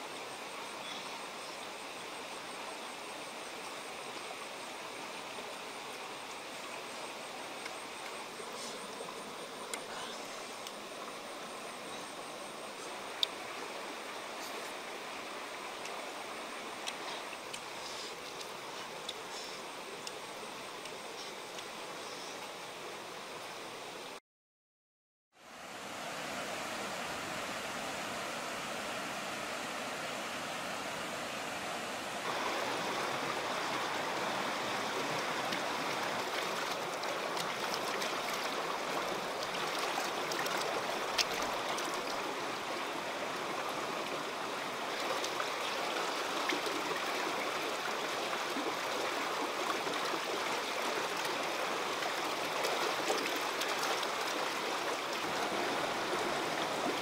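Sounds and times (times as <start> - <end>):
stream rushing over rocks: 0.0 - 24.0, 25.6 - 57.0.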